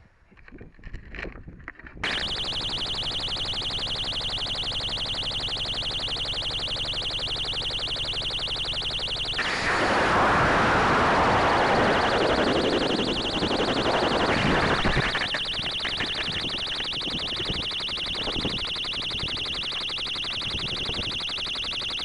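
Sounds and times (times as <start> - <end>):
electronic beacon pulsing tone: 2.0 - 22.0.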